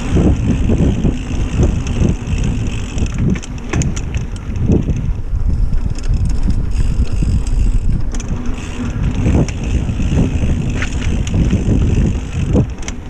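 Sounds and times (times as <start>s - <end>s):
tyres rumbling on dirt: 0.0s - 5.1s, 6.4s - 13.0s
bike clicks and rattles: 0.0s - 13.0s
wind buffeting microphone: 0.0s - 13.0s.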